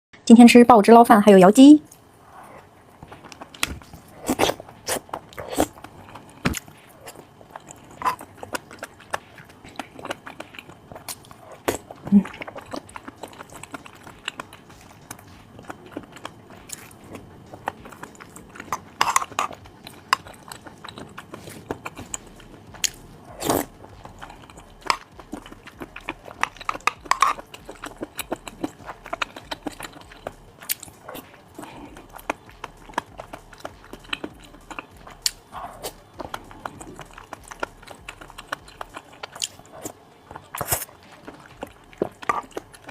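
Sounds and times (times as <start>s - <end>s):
crunching and chewing food: 1.8s - 42.9s.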